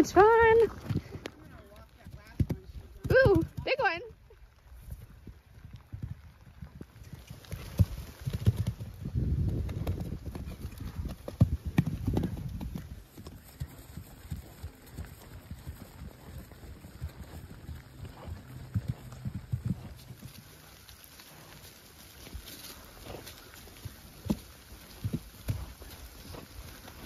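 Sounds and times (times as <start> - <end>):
horse hoofbeats on grass: 0.0 - 27.0.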